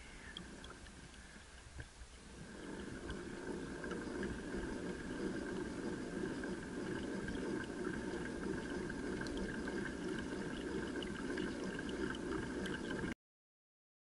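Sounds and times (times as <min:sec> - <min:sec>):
faint drive whine: 0:00.0 - 0:13.2
water sloshing along hull: 0:00.0 - 0:13.2.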